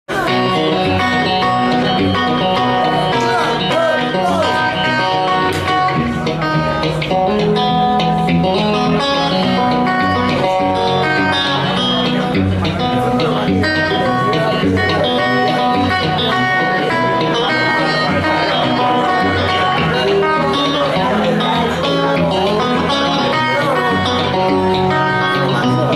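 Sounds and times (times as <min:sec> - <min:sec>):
fingerpicked blues guitar: 0:00.1 - 0:25.9.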